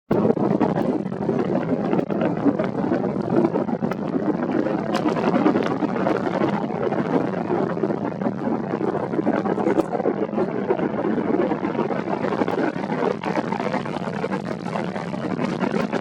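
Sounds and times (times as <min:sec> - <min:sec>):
distant rocket engine rumble: 0:00.1 - 0:16.0
rocket engine crackles: 0:00.1 - 0:16.0.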